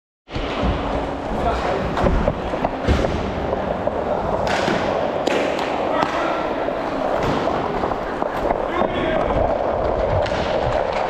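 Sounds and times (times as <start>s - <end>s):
skates rolling over tiles: 0.3s - 11.0s
hockey sticks and puck knocking: 1.8s - 11.0s.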